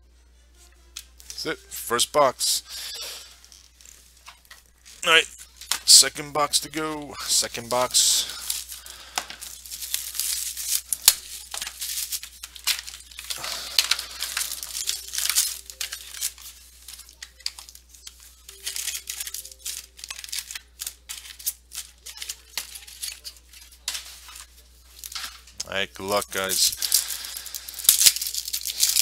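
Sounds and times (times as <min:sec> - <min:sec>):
plastic wrapping torn and crinkled: 0:02.7 - 0:29.0.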